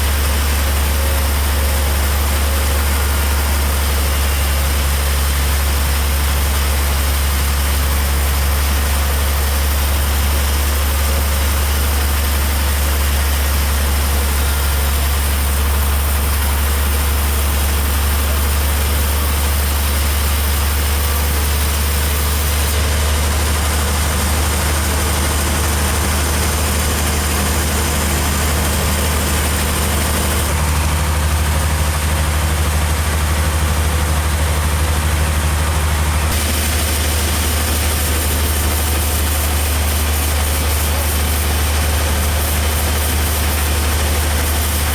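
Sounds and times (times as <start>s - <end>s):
heavy engine idling: 0.0s - 44.9s.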